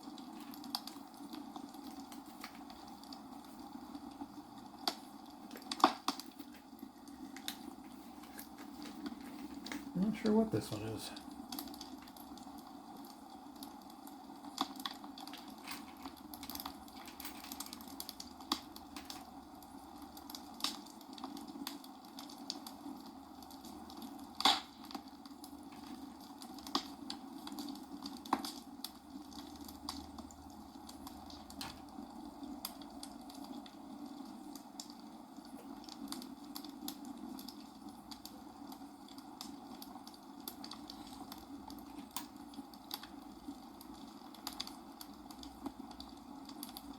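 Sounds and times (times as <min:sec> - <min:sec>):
low hiss: 0:00.0 - 0:46.9.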